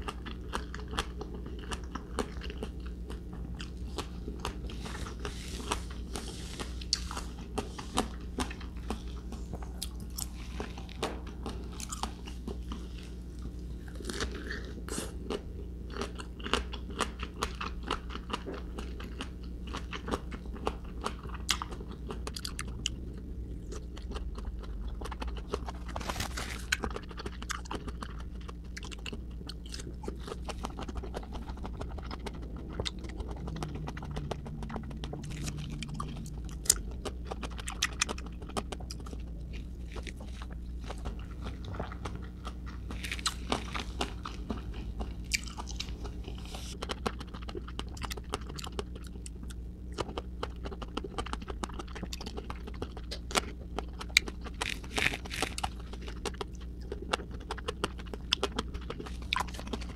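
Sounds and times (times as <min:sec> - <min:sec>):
biting and chewing crisp fruit: 0:00.0 - 0:59.9.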